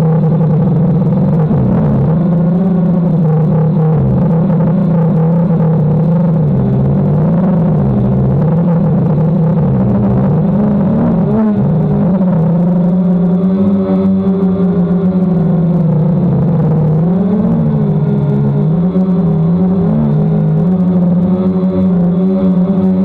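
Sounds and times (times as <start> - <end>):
quadcopter motors humming: 0.0 - 23.0.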